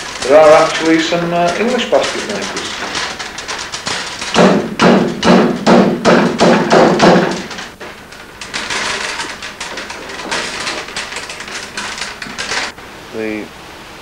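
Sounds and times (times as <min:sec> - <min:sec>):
thumps on wicker: 0:00.0 - 0:12.7
willow rods crackling: 0:00.0 - 0:13.5.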